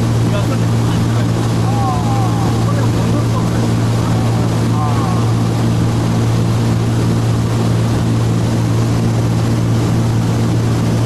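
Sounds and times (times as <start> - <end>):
aircraft engines droning in cabin: 0.0 - 11.0.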